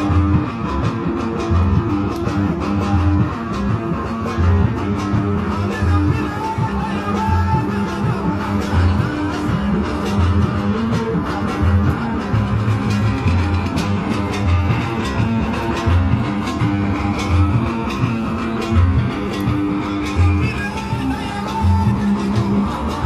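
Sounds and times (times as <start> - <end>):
oud playing: 0.0 - 23.0.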